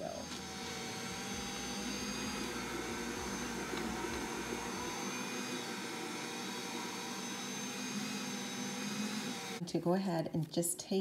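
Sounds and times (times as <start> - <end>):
stand mixer whining: 0.0 - 9.6.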